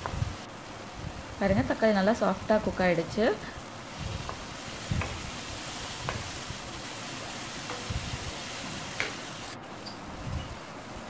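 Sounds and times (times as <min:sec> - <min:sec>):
masala sizzling in frying pan: 0:00.0 - 0:11.0.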